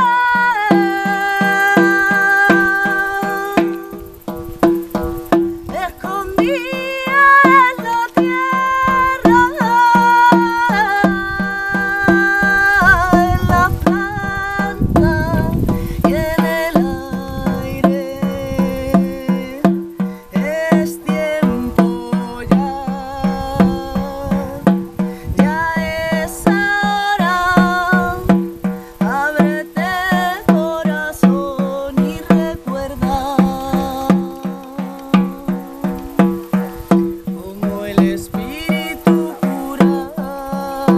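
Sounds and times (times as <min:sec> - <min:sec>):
frame drum beating: 0:00.0 - 0:40.9
woman singing: 0:00.0 - 0:40.9.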